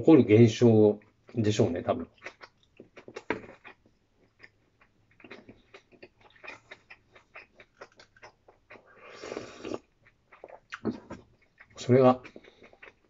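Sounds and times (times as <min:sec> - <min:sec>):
person chewing food: 0:02.0 - 0:13.0.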